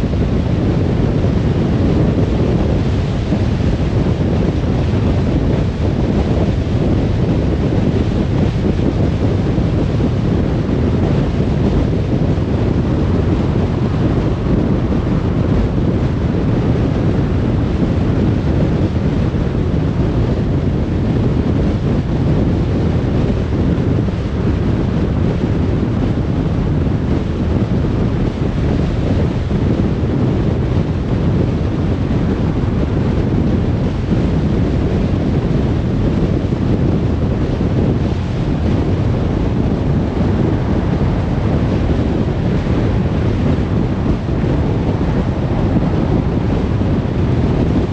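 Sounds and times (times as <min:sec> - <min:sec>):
road and wind noise rumble: 0:00.0 - 0:47.9.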